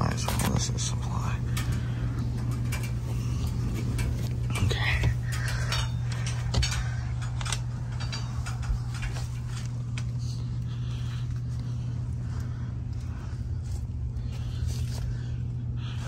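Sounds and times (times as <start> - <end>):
clicks and rustles: 0.0 - 15.6
blower fan humming: 0.0 - 16.0.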